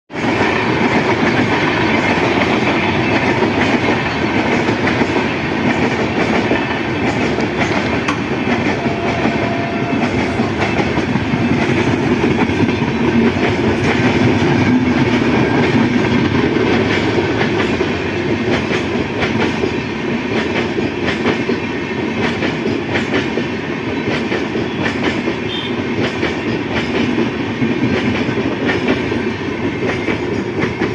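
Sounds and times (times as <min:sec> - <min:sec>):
train rumbling on rails: 0:00.1 - 0:30.9
wheels clicking over rail joints: 0:00.1 - 0:30.9.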